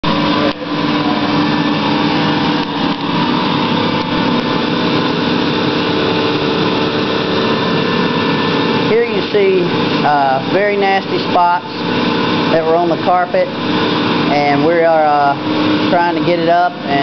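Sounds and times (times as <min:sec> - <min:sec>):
carpet cleaning machine running: 0:00.0 - 0:17.0.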